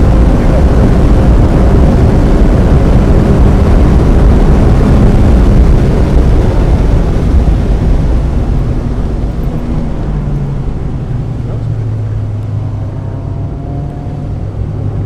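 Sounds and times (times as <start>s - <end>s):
car engine running hard: 0.0s - 15.0s
wet road noise: 0.0s - 15.0s
wind noise: 0.0s - 15.0s.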